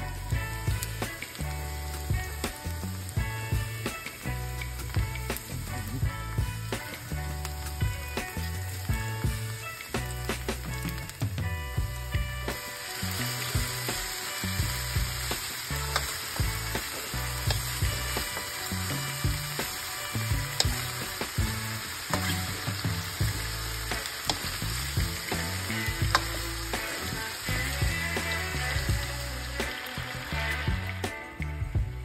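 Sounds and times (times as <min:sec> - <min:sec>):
food sizzling in a wok: 0:00.0 - 0:31.8.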